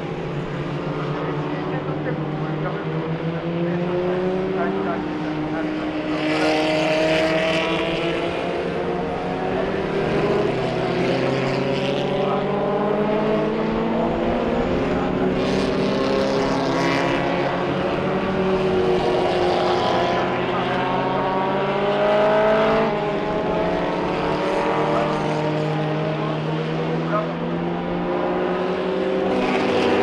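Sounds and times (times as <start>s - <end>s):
racing car engines passing: 0.0s - 30.0s.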